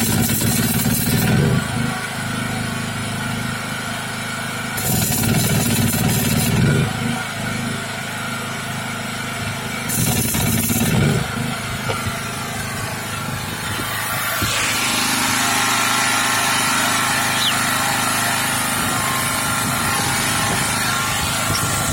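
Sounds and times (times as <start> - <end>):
van engine running: 0.0 - 21.9.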